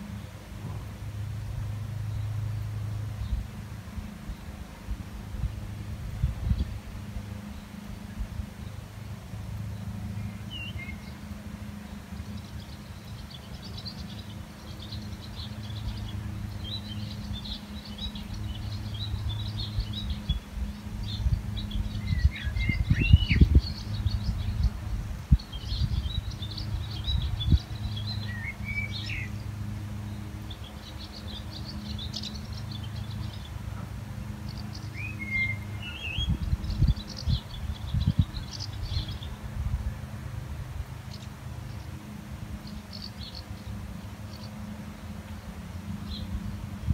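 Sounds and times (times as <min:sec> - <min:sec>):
birds twittering and chirping: 0:00.0 - 0:46.9
steady low hum: 0:00.0 - 0:46.9.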